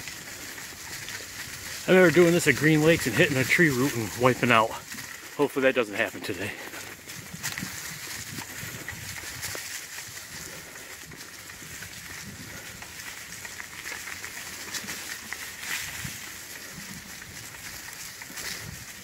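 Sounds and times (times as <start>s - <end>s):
bicycle tyres rolling over leaves: 0.0s - 19.0s.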